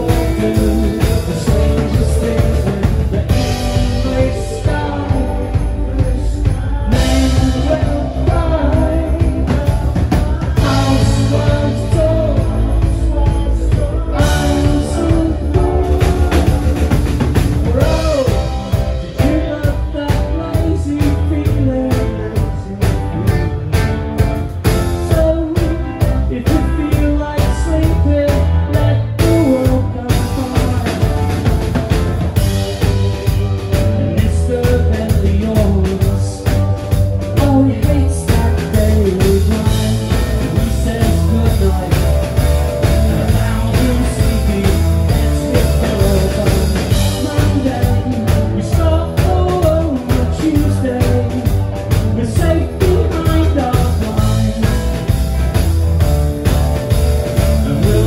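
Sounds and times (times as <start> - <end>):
drum kit beat: 0.0 - 58.0
electric guitar: 0.0 - 58.0
keyboard: 0.0 - 58.0
man singing: 0.0 - 58.0.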